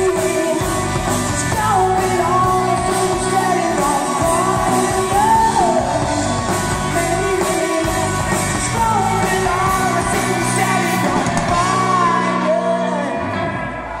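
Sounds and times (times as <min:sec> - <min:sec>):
woman singing: 0:00.0 - 0:13.3
drums: 0:00.0 - 0:14.0
electric guitars: 0:00.0 - 0:14.0.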